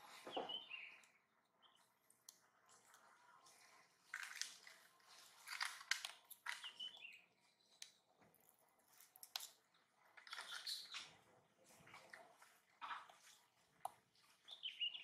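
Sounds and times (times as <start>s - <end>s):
faint clicks and wet scuffs: 1.8s - 15.0s.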